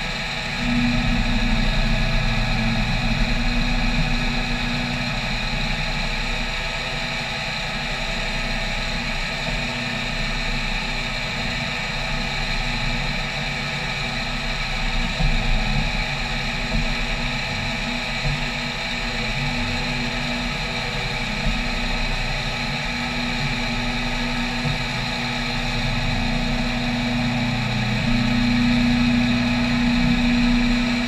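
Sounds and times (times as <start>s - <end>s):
mill cutting metal plate: 0.0s - 31.0s.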